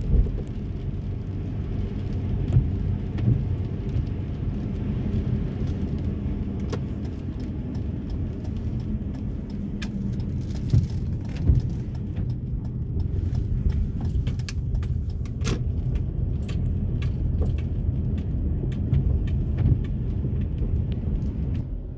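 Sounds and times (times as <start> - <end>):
tyres and engine rumbling: 0.0 - 21.9
sharp ticks and clicks: 2.4 - 21.6.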